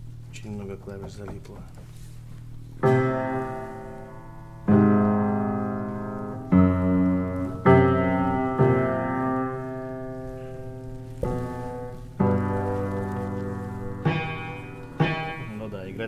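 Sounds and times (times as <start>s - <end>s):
piano chords ringing: 2.8s - 16.0s.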